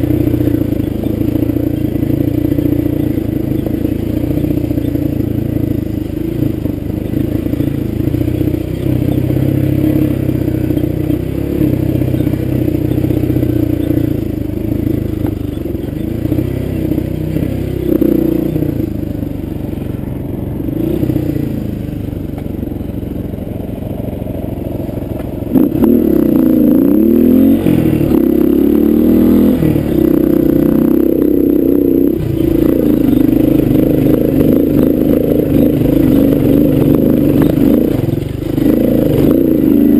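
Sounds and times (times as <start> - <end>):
dirt bike engine revving: 0.0 - 20.0, 20.7 - 22.0, 25.4 - 39.9.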